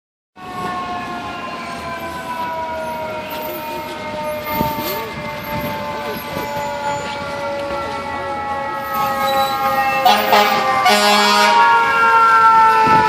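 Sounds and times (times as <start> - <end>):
faint wavering siren: 0.4 - 13.0.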